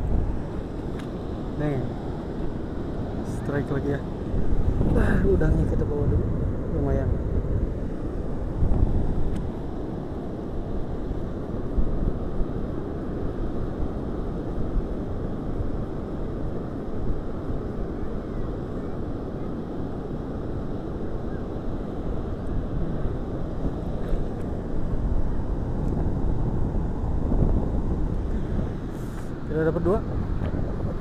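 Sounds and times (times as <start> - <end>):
sea surf: 0.0 - 31.0
wind buffeting microphone: 0.0 - 31.0.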